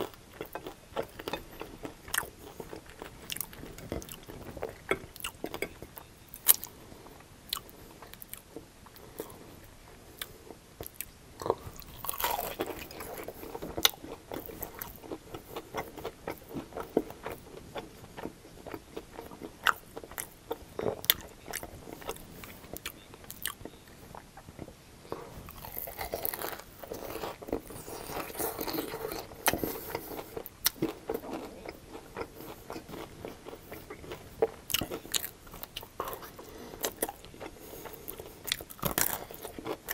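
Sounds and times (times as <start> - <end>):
crunching and chewing fried chicken: 0.0 - 39.9.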